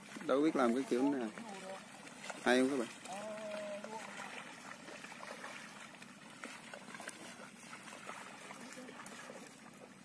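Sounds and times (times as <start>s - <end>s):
shallow water trickling: 0.0s - 10.0s.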